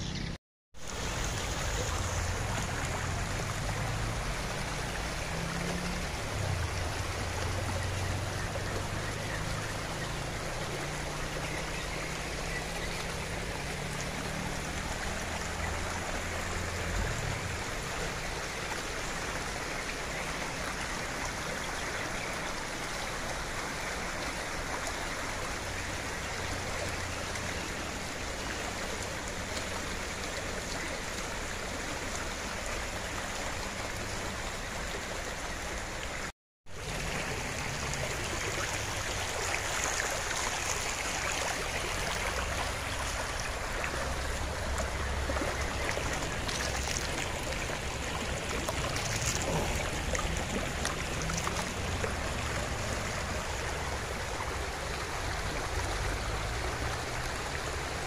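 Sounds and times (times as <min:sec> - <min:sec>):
stream water rushing over rocks: 0:00.8 - 0:58.0.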